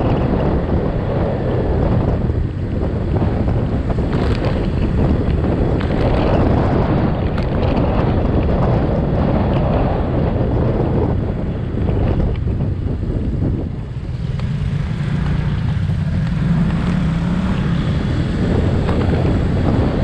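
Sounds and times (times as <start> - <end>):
vehicle traffic rumble: 0.0 - 20.0
wind buffeting microphone: 0.0 - 20.0.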